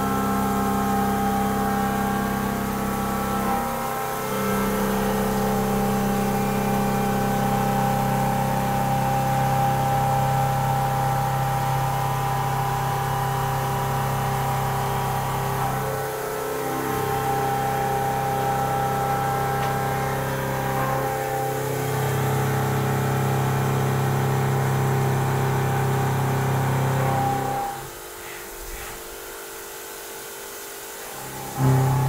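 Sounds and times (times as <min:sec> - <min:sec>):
machine tool humming: 0:00.0 - 0:32.0.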